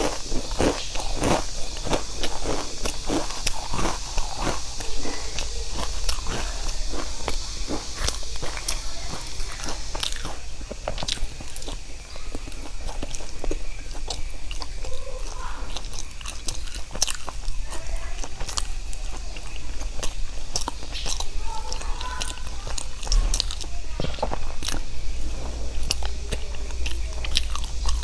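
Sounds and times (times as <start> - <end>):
biting and chewing pastry: 0.0 - 28.0.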